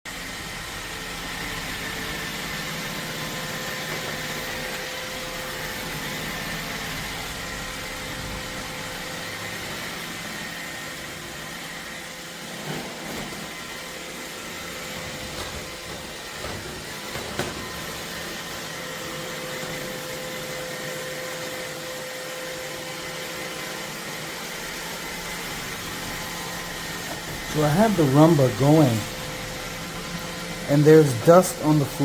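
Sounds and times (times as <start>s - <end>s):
robot vacuum whirring: 0.1s - 32.0s.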